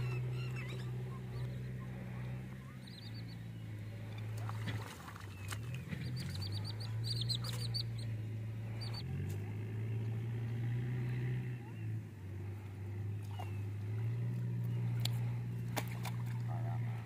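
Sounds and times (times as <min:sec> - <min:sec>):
birds chirping: 0:00.0 - 0:17.0
low droning hum: 0:00.0 - 0:17.0.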